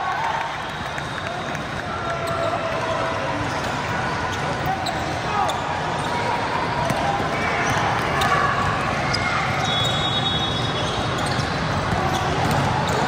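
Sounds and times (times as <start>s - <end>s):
spectators chattering: 0.0s - 13.0s.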